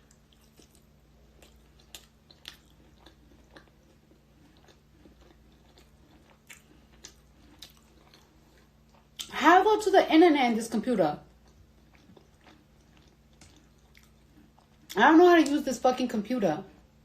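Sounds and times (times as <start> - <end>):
faint chewing crunches: 0.0 - 9.4, 11.2 - 15.6
low room hum: 0.0 - 17.0.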